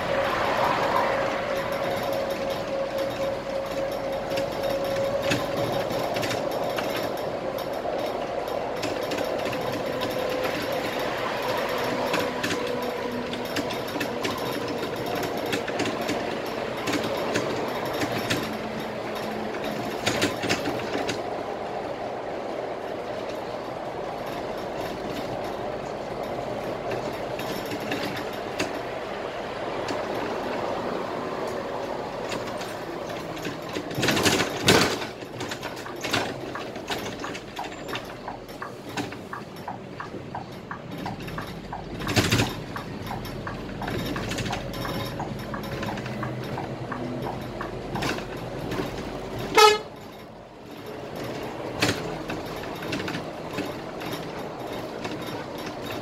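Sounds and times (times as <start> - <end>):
bus engine and road drone: 0.0 - 56.0
engine whine: 0.0 - 56.0.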